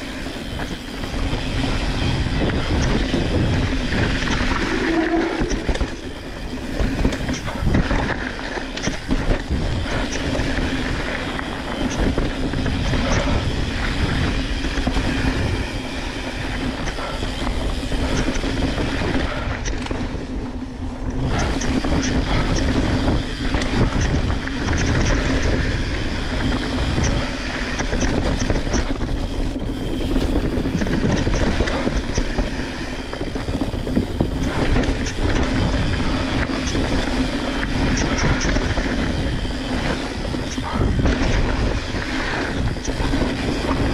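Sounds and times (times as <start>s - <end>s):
bike rattling and clacking: 0.0s - 43.9s
bike tyres rumbling over dirt: 0.0s - 43.9s.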